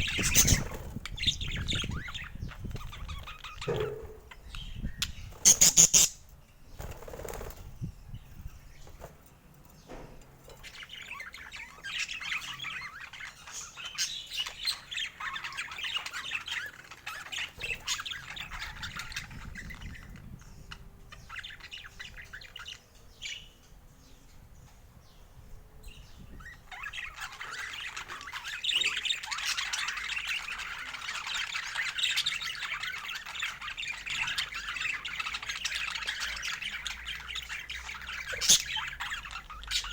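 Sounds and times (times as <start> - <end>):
parakeet chattering and squawking: 0.0 - 6.3, 10.6 - 23.4, 26.4 - 39.9.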